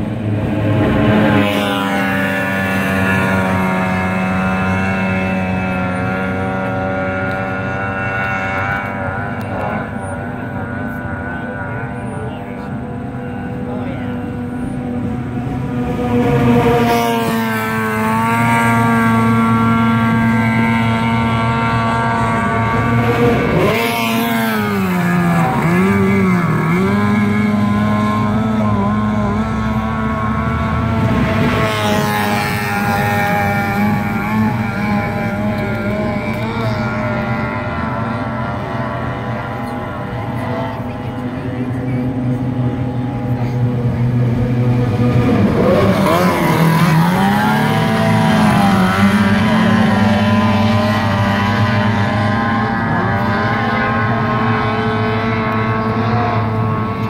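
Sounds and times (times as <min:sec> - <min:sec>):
racing outboard motor: 0:00.0 - 0:57.0.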